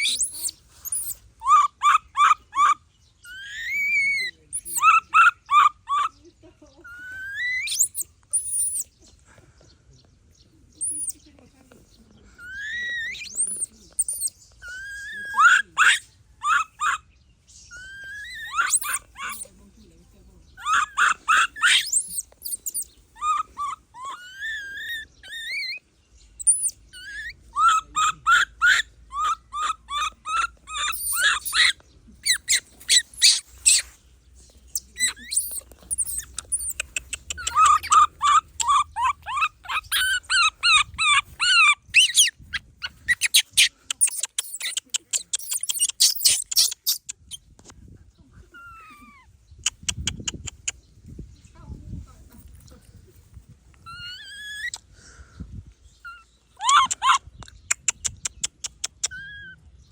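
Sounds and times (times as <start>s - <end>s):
baby monkey squeaking: 0.0s - 9.0s, 10.7s - 11.3s, 12.3s - 19.6s, 20.4s - 47.8s, 48.5s - 51.6s, 53.4s - 54.9s, 55.9s - 59.9s.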